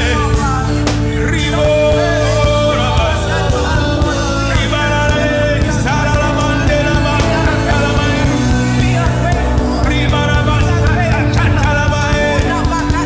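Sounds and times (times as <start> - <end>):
voices singing: 0.0 - 13.0
worship band playing: 0.0 - 13.0.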